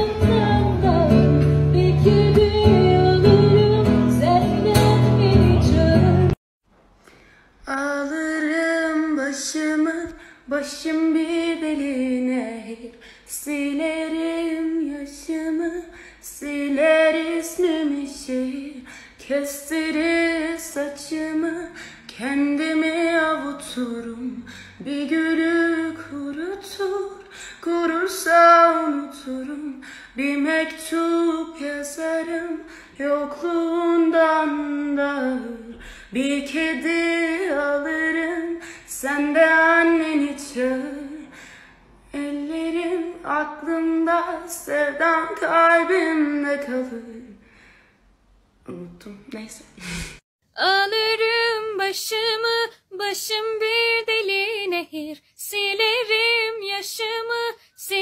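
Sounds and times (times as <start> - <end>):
woman singing unaccompanied: 0.0 - 6.4, 7.7 - 41.4, 42.1 - 47.4, 48.6 - 49.8, 50.5 - 58.0.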